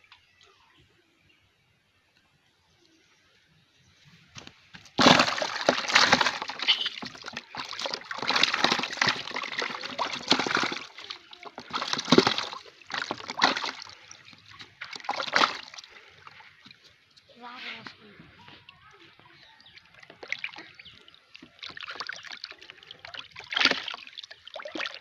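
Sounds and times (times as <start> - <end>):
water splashing and sloshing: 4.2 - 25.0.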